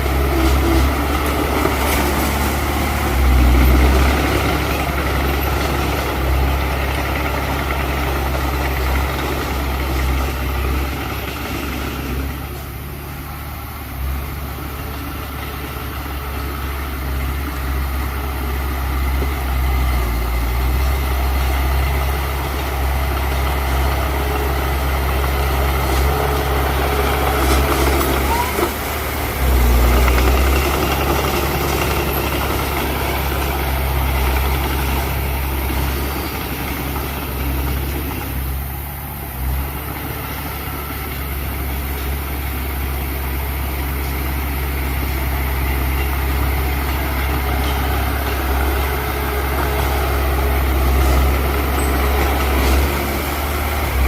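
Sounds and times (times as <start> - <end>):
bulldozer diesel engine humming: 0.0 - 54.0.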